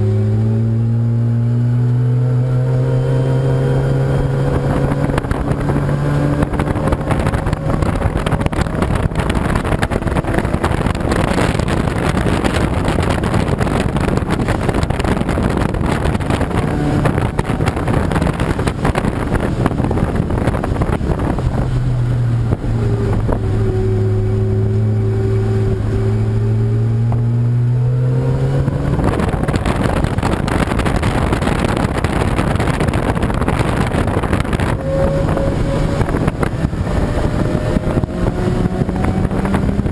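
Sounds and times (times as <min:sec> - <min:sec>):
wind noise on microphone: 0:00.0 - 0:39.9
race car engines running: 0:02.3 - 0:39.9.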